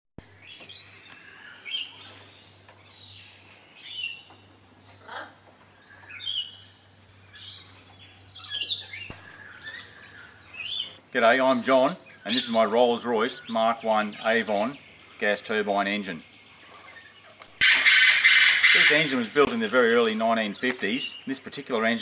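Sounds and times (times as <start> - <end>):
birds chirping and calling: 0.2 - 22.0.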